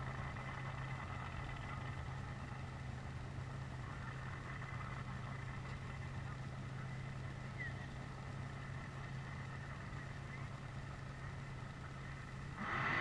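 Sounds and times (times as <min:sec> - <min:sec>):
background noise: 0:00.0 - 0:13.0
vehicle engines idling: 0:00.0 - 0:13.0.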